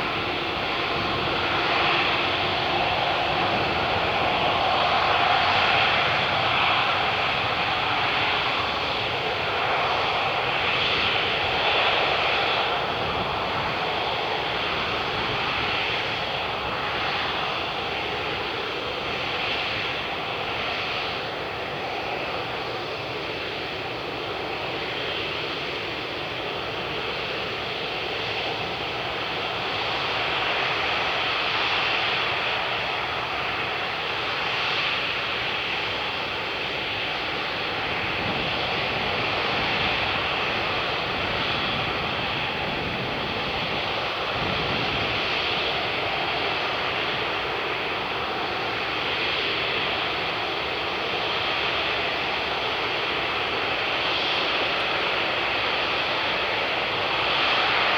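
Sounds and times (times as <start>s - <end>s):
jet engines roaring: 0.0s - 57.9s.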